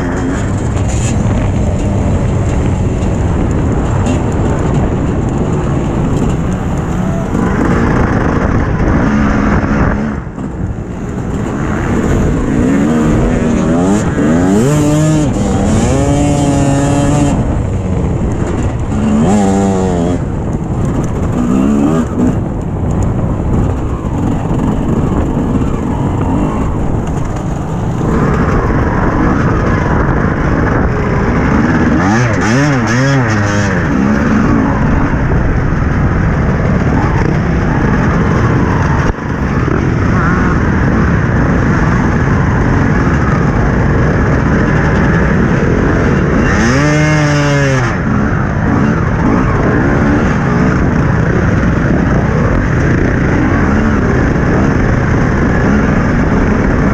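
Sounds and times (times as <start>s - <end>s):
dirt bike engine revving: 0.0s - 20.4s, 21.2s - 22.5s, 24.1s - 35.2s, 36.7s - 56.9s
dirt bike engines running: 0.0s - 56.9s.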